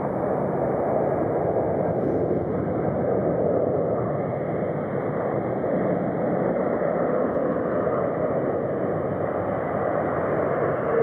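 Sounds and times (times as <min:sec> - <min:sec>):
jet engine noise: 0:00.0 - 0:11.0.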